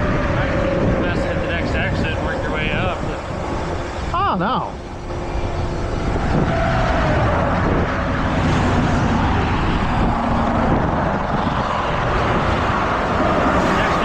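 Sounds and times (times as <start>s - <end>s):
falling tone of passing vehicle: 0.0s - 14.0s
highway traffic passing: 0.0s - 14.0s.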